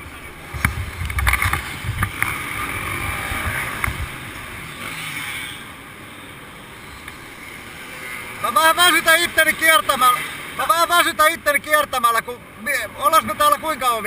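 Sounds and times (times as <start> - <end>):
motocross bike engines droning: 0.0 - 14.0.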